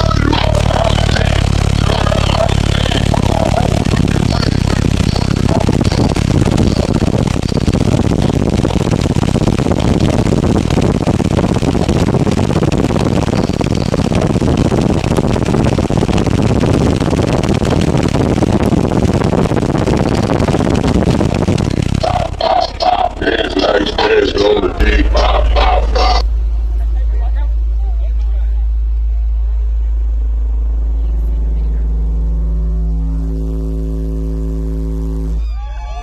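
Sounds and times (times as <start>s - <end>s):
air buffeting microphone: 0.0s - 36.0s
subwoofers playing bass rumble: 0.0s - 36.0s.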